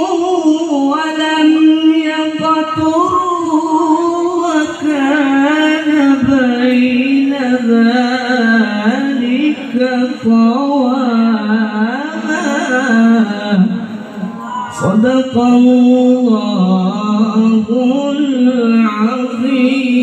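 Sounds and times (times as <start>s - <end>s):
man reciting melodically through microphone: 0.0s - 20.0s.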